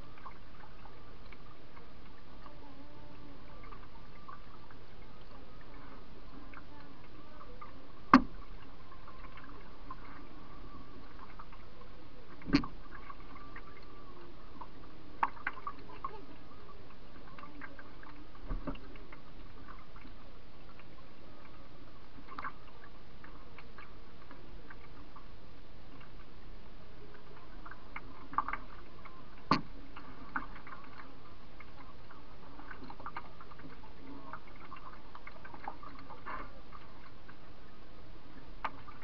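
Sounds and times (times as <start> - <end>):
faint thin whine: 0.0 - 39.0.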